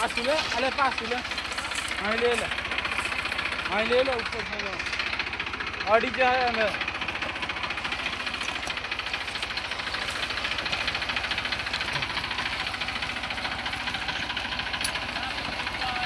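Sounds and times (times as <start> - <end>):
tractor diesel engine chugging: 0.0 - 16.0.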